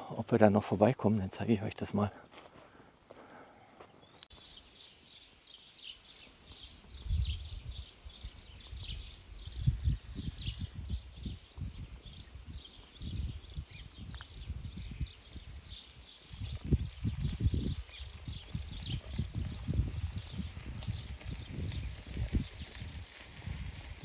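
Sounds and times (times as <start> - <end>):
small birds chirping: 3.8 - 24.0.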